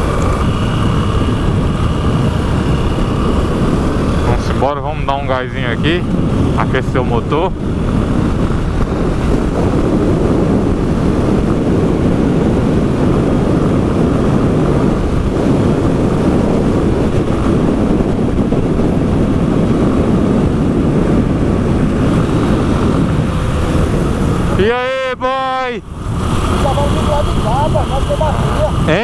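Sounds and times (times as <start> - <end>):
motorcycle engine: 0.0 - 29.0
wind buffeting microphone: 0.0 - 29.0.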